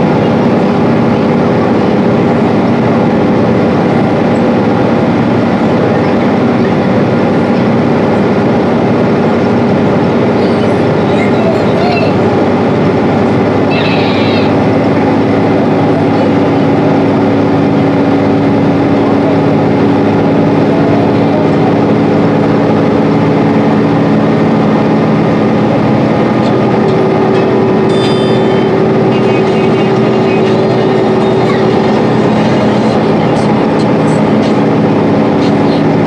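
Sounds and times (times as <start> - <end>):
bus diesel engine drone: 0.0 - 36.0
road and tyre noise: 0.0 - 36.0.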